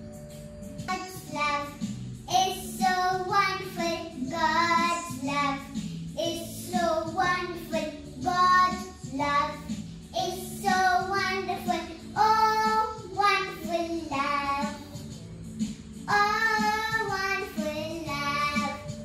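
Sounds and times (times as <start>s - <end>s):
girl singing: 0.8s - 15.0s, 16.0s - 19.0s.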